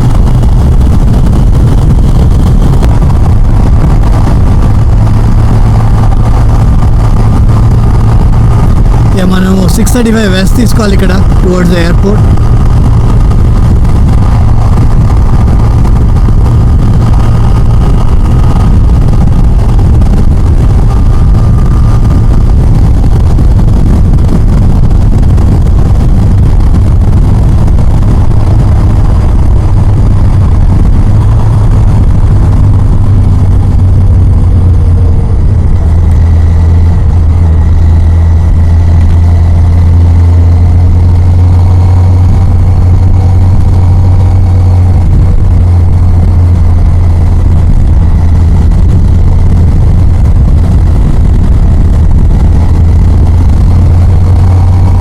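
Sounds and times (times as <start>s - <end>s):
motorcycle engine droning: 0.0s - 55.0s
wind rushing on microphone: 0.0s - 55.0s.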